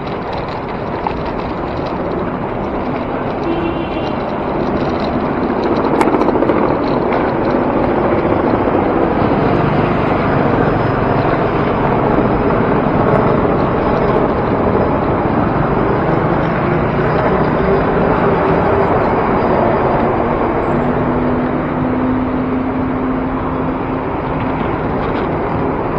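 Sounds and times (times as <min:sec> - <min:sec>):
road traffic noise: 0:00.0 - 0:25.9
wind buffeting microphone: 0:00.0 - 0:25.9.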